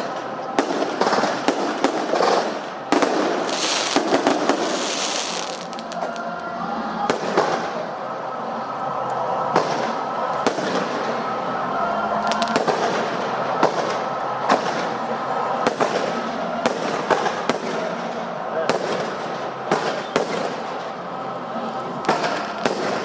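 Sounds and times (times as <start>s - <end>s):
fireworks bursting: 0.0s - 8.3s, 8.9s - 23.0s
steady background din: 0.0s - 23.0s.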